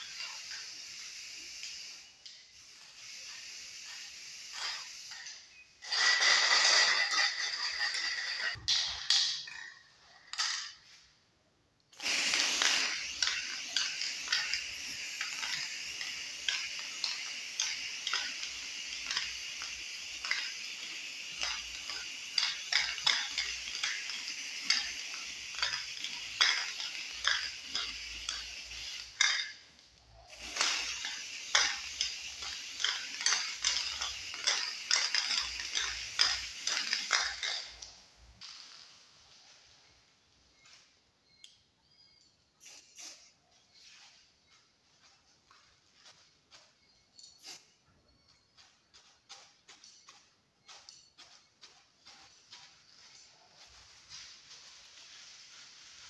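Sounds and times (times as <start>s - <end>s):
spray paint hissing: 0.0s - 9.6s, 11.9s - 40.9s, 42.6s - 56.0s.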